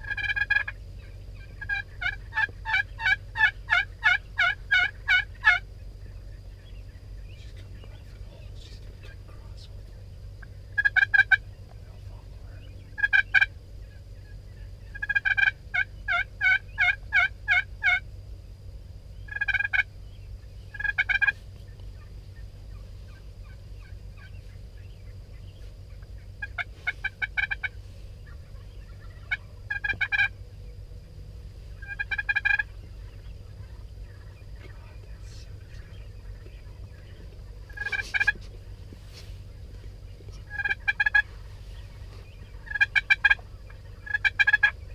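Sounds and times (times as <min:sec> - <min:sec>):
turkeys gobbling: 0:00.0 - 0:18.1, 0:19.1 - 0:44.9
low rumble: 0:00.0 - 0:44.9.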